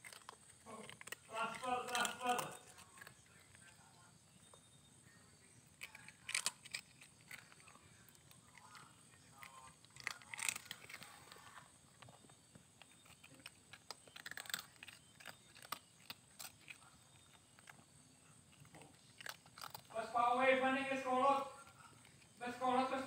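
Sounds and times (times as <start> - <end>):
cat crunching dry kibble: 0.0 - 23.0.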